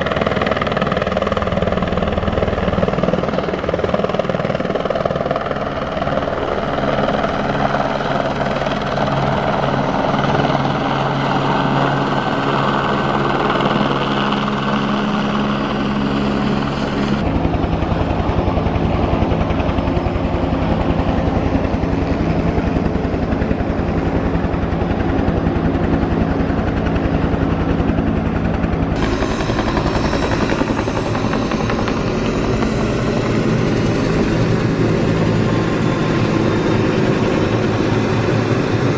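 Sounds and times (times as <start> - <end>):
helicopters flying overhead: 0.0 - 38.9.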